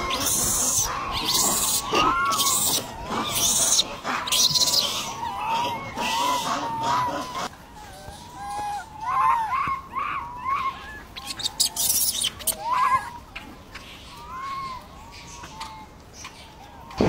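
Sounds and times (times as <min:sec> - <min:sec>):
animal calls: 0:00.0 - 0:17.0.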